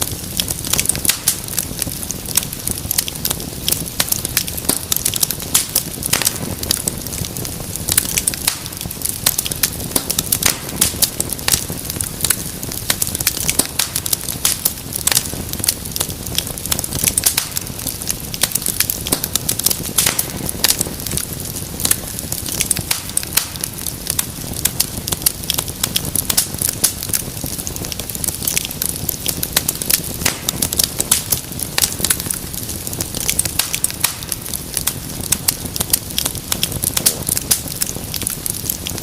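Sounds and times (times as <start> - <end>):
low rumble of flames: 0.0 - 39.0
wood fire crackling: 0.0 - 39.0.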